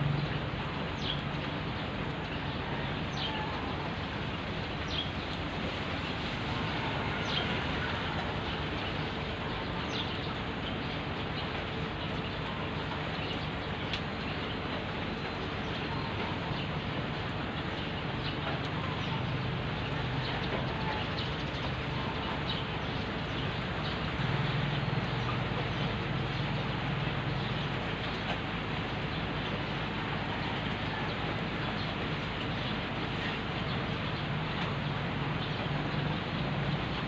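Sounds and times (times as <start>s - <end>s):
rain on gravel and foliage: 0.0s - 37.0s.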